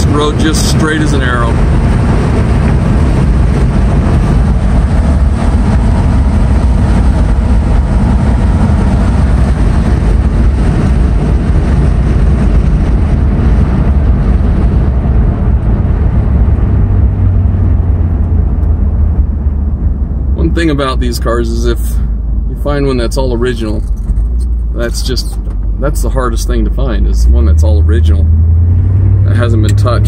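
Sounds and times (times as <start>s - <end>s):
car engine rumbling: 0.0s - 30.0s
wind and road noise: 0.0s - 30.0s.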